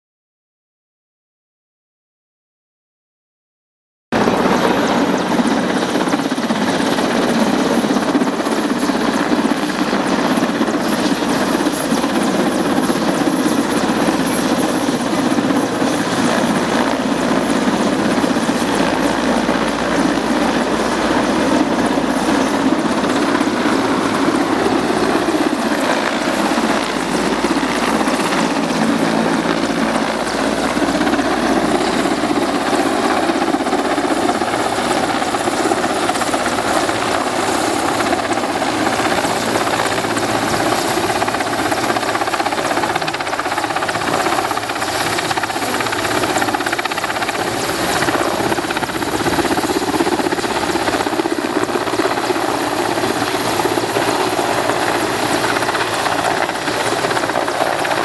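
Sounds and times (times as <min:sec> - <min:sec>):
helicopter flying low overhead: 0:04.1 - 0:58.0.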